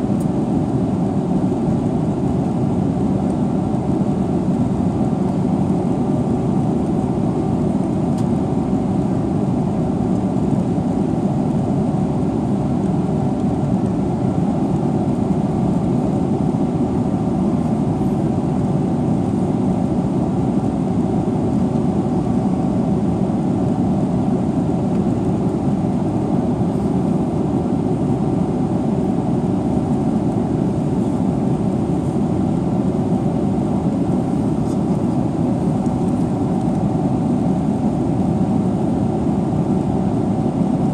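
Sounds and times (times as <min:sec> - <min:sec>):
airliner cabin drone: 0:00.0 - 0:40.9.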